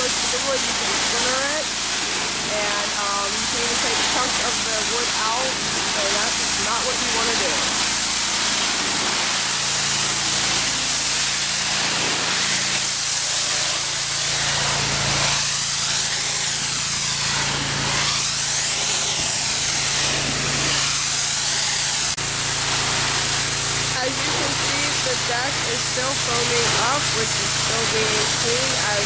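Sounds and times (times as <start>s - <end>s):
pressure washer spraying wood: 0.0s - 29.0s.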